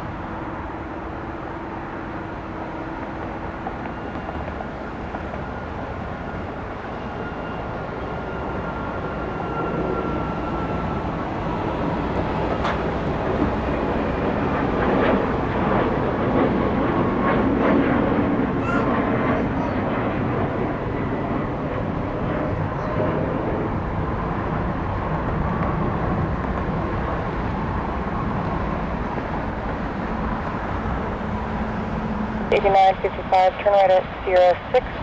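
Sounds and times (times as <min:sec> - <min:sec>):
faint jet engine whine: 0:00.0 - 0:35.0
jet engines roaring: 0:00.0 - 0:35.0.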